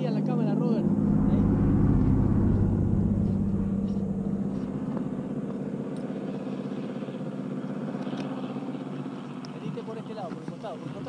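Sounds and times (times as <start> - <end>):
engine humming: 0.0 - 9.5.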